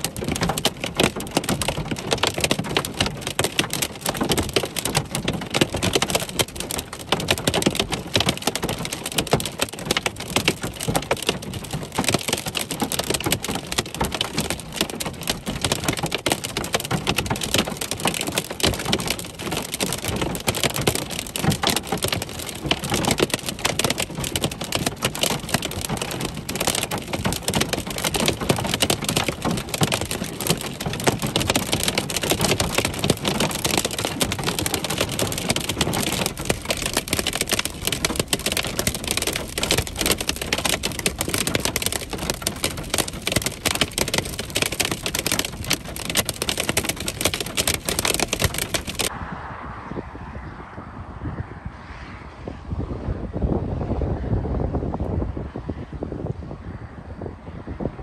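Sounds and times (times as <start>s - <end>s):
hail pelting car roof: 0.0s - 49.1s.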